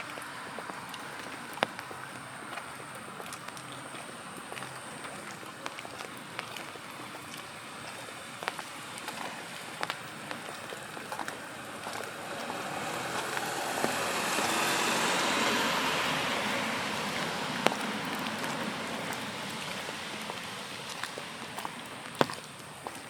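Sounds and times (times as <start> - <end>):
car tyres hissing on wet road: 0.0 - 22.8
raindrop ticks: 0.0 - 23.0
steady rain: 0.0 - 23.0.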